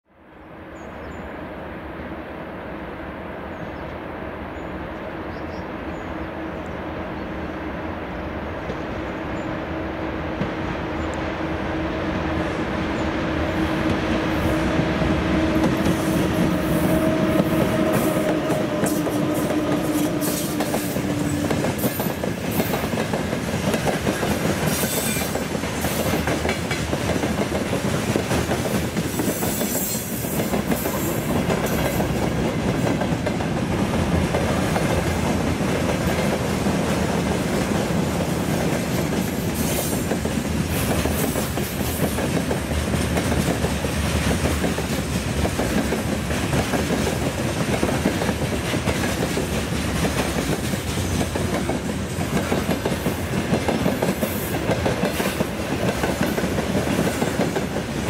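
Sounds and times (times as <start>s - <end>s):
electric locomotive hum: 0.4s - 58.0s.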